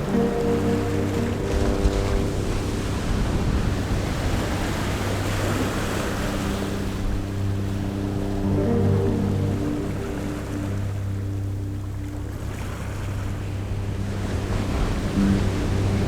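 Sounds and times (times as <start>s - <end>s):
ocean waves washing onto shore: 0.0s - 16.0s.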